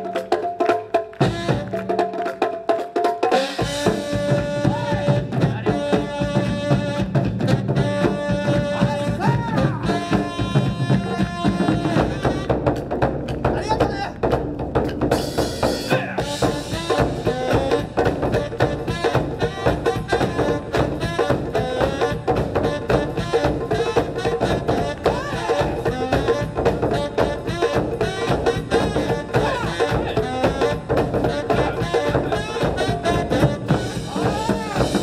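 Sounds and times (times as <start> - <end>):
drum ensemble playing: 0.0 - 35.0
melody over drumming: 0.0 - 35.0.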